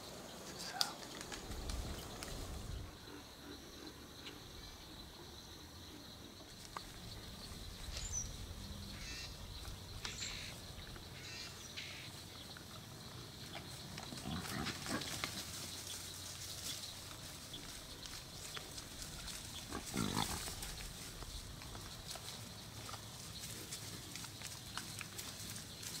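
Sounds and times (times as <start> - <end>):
light ticks and crackles: 0.4 - 2.8, 6.6 - 11.2, 12.1 - 26.0
wild hogs grunting: 0.5 - 25.5.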